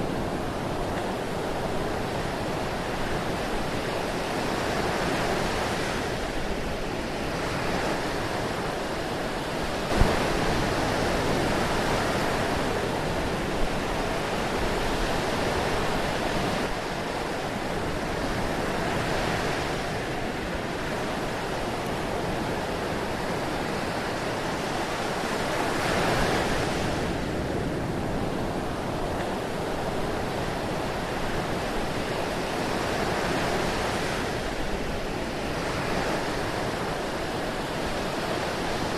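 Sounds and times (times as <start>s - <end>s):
ocean surf washing in: 0.0s - 38.9s.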